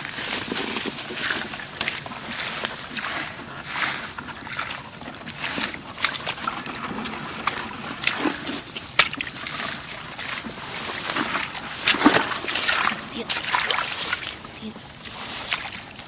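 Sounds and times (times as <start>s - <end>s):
shallow water sloshing and splashing: 0.0s - 16.0s.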